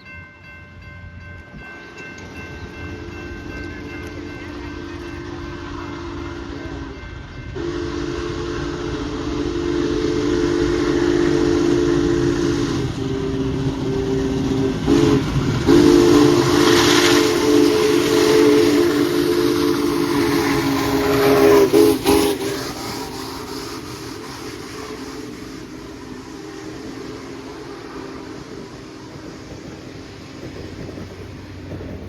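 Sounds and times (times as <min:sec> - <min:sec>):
steam hissing: 0:02.4 - 0:32.0
steam whistle chord blasts: 0:02.9 - 0:28.9.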